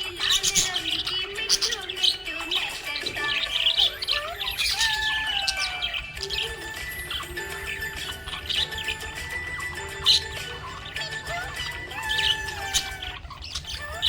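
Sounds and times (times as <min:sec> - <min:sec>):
budgerigars chirping and warbling: 0:00.0 - 0:14.0.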